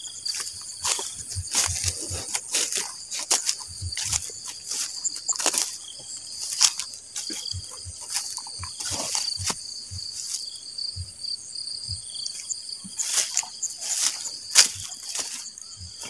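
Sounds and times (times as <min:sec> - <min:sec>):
grass and leaves rustling underfoot: 0:00.0 - 0:11.1, 0:12.0 - 0:16.0
insects trilling: 0:00.0 - 0:16.0
footsteps thudding: 0:00.2 - 0:11.2, 0:11.9 - 0:16.0.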